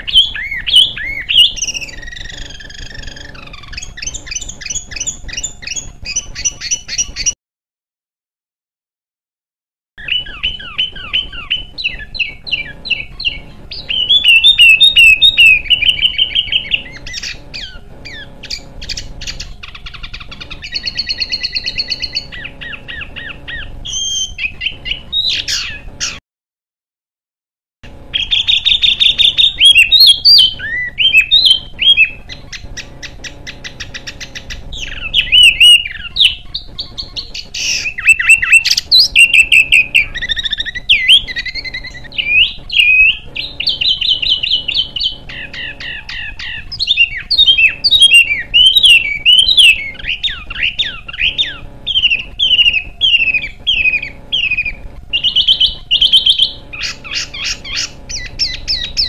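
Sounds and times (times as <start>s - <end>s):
songbirds singing harsh trills: 0.0s - 7.4s, 10.0s - 26.2s, 27.9s - 59.0s.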